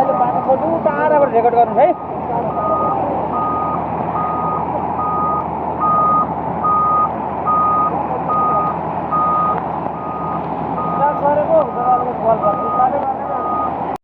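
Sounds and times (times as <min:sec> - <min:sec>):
loud rushing rumble: 0:00.0 - 0:14.0
vehicle reversing alarm beeping: 0:00.0 - 0:14.0.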